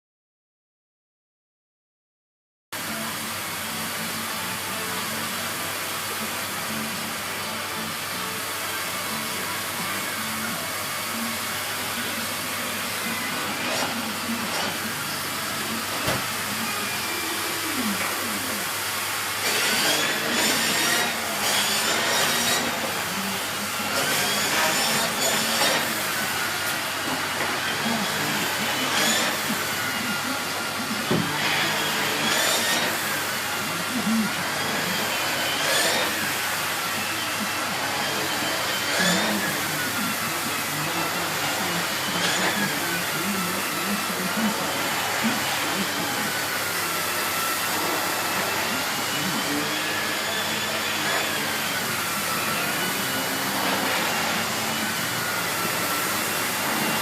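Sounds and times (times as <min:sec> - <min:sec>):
vacuum cleaner running: 0:02.8 - 0:57.0.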